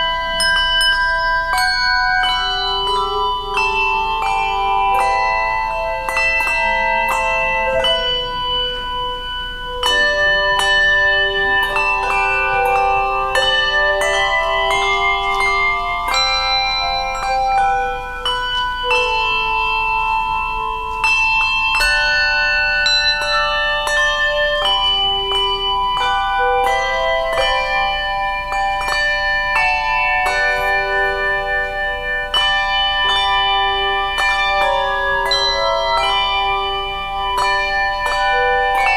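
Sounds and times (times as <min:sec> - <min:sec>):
handbell choir ringing chords: 0:00.0 - 0:38.9.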